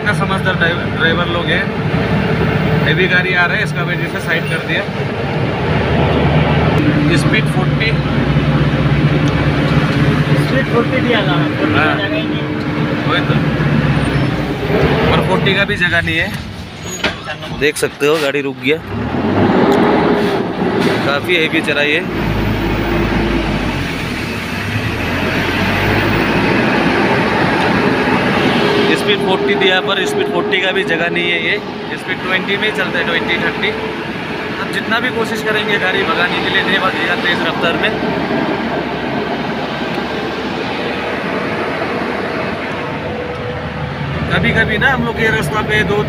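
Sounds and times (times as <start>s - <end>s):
road noise: 0.0s - 46.0s
truck diesel engine rumbling: 0.0s - 46.0s.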